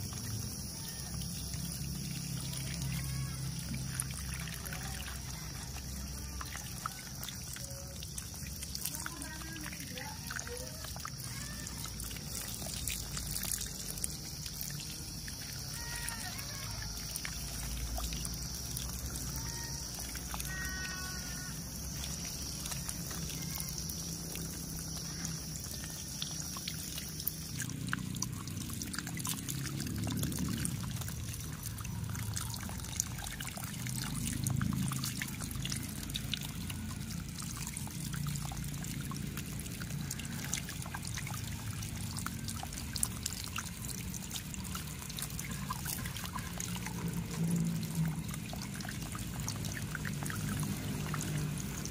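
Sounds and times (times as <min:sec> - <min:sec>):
water dribbling onto plastic sheet: 0:00.0 - 0:51.9
water from hose splashing on toys: 0:00.0 - 0:51.9.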